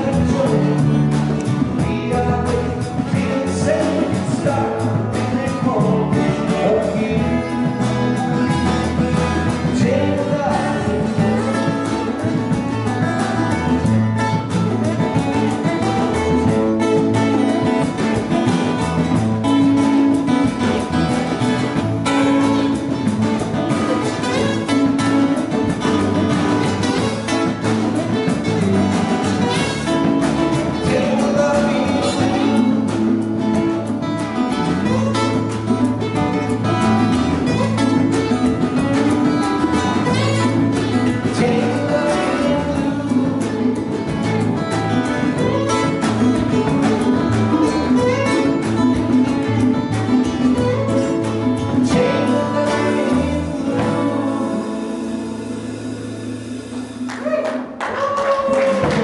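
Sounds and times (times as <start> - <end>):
acoustic guitars strumming: 0.0 - 59.0
congas: 0.0 - 59.0
drum kit: 0.0 - 59.0
electric bass: 0.0 - 59.0.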